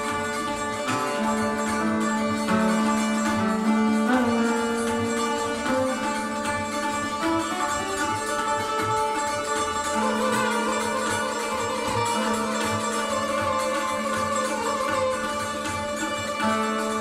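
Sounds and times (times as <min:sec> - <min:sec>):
tabla strokes: 0:00.0 - 0:17.0.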